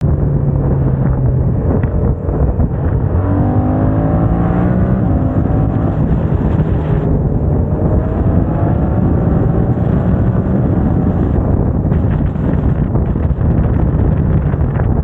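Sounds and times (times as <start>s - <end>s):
loud motorcycle engine revving: 0.7s - 14.5s.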